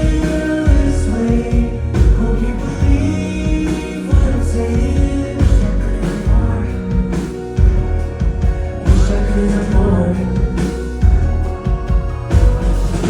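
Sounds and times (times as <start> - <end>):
live pop song with vocals: 0.0 - 13.0.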